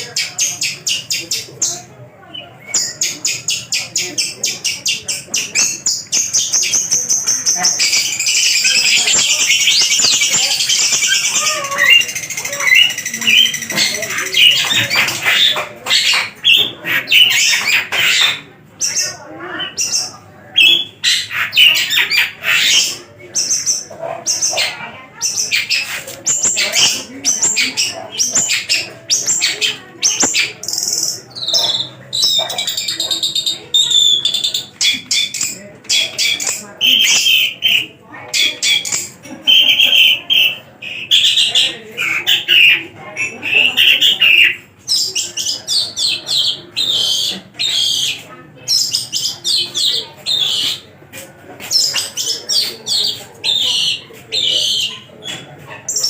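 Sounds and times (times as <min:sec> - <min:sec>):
shrike singing: 0:00.0 - 0:50.8.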